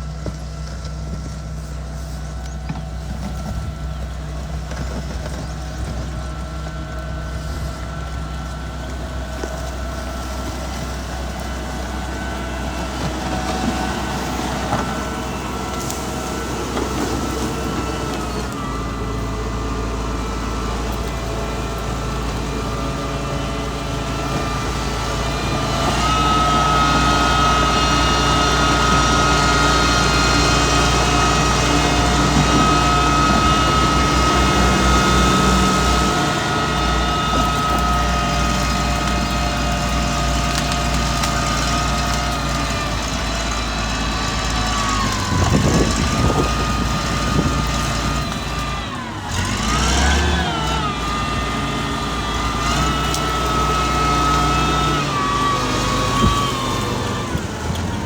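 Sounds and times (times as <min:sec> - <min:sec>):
grader diesel engine running: 0:00.0 - 0:58.0.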